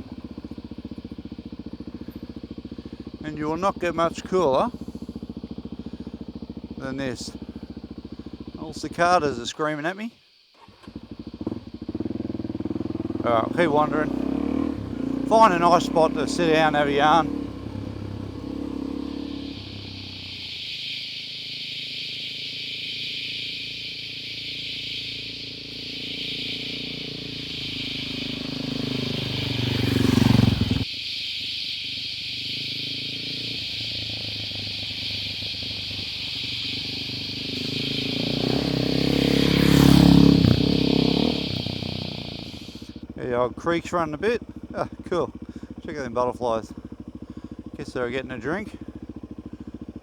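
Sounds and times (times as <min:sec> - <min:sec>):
cicadas chorus: 0:00.0 - 0:50.0
motorcycle engine running: 0:00.0 - 0:50.0.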